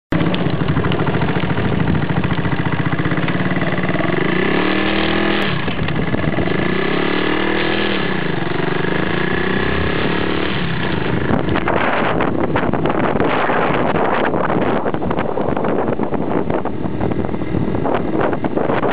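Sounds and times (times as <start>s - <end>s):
small motorcycle engine running: 0.1s - 18.9s
wind noise on microphone: 0.1s - 18.9s.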